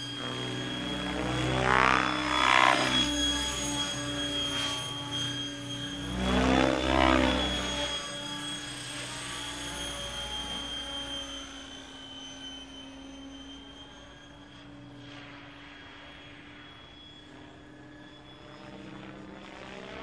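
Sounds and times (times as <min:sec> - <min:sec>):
high-pitched motor whine: 0:00.0 - 0:20.0.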